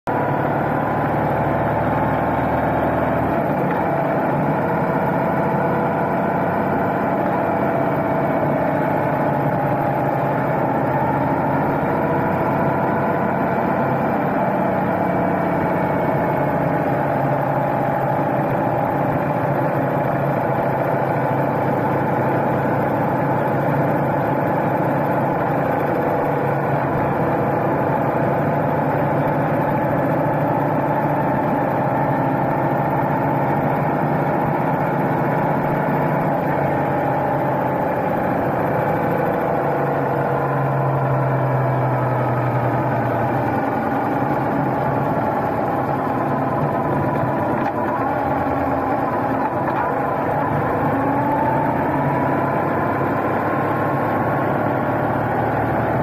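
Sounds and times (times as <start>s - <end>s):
motorcycle engine cruising: 0.1s - 56.0s.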